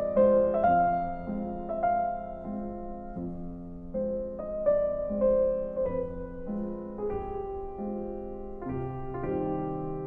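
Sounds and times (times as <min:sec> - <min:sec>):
slow keyboard melody: 0:00.0 - 0:10.0.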